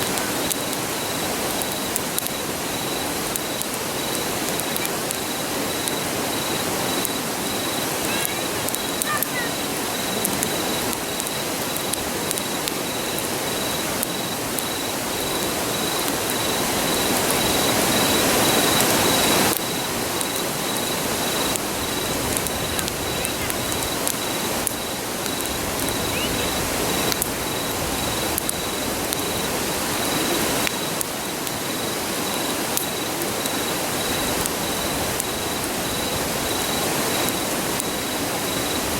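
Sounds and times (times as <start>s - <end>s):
campfire crackling: 0.0s - 38.9s
insect chirping: 0.0s - 38.9s
river rushing: 0.0s - 38.9s.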